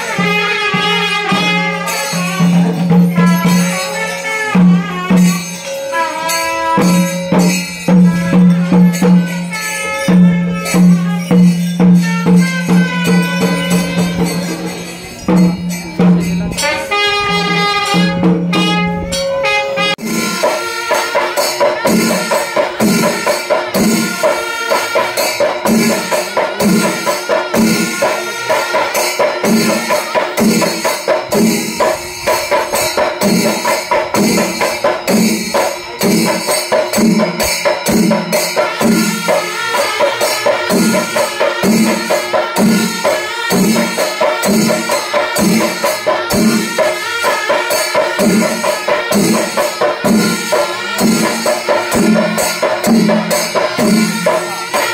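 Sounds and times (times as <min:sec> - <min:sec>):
drums beating steadily: 0:00.0 - 0:54.9
small hand cymbals clashing: 0:00.0 - 0:54.9.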